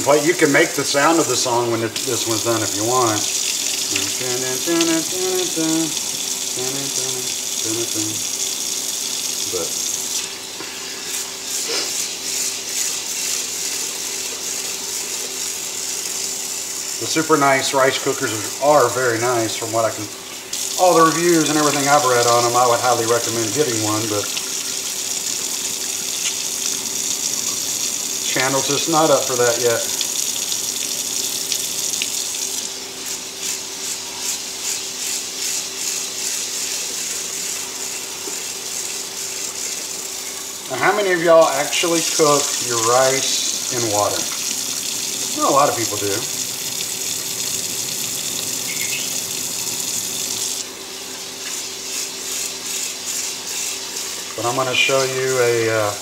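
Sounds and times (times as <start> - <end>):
faucet running into a pot: 0.0 - 56.0.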